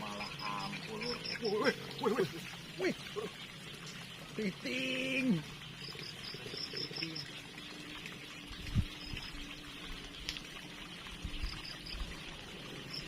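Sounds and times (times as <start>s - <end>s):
insects chirping: 0.0s - 13.0s
water trickling: 0.0s - 13.0s.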